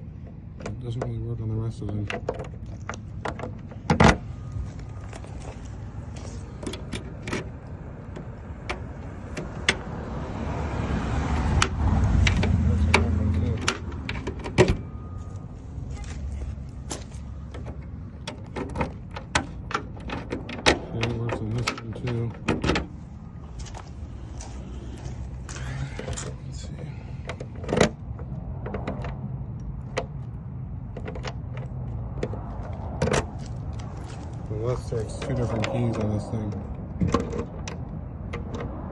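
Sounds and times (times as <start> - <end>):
low rumbling noise: 2.6 - 38.9.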